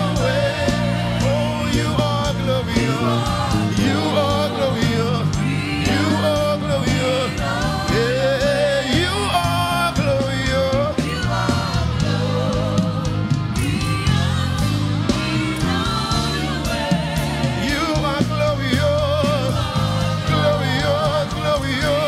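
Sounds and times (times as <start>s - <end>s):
band with bass and drums: 0.0s - 22.0s
voices singing gospel: 0.0s - 22.0s.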